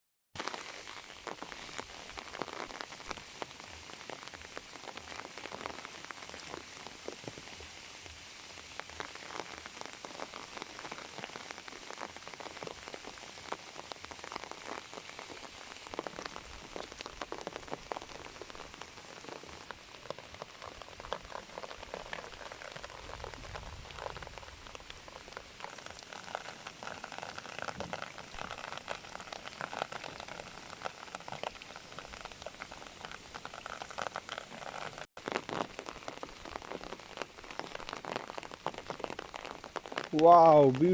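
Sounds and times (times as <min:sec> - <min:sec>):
steady rain pattering: 0:00.4 - 0:40.9.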